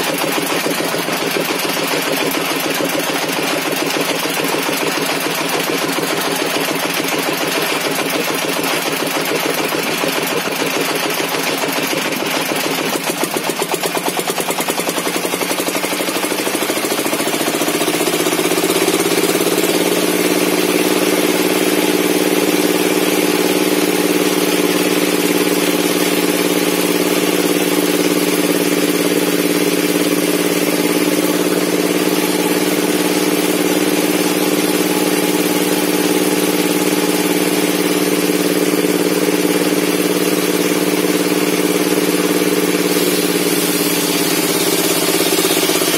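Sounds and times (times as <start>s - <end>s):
circular saw engine running: 0.0s - 45.9s.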